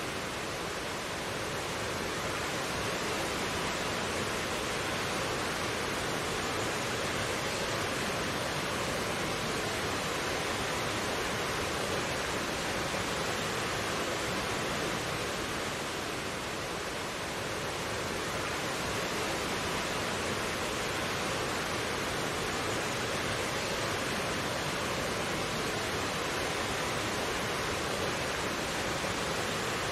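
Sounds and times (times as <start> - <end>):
stream water rushing: 0.0 - 29.9.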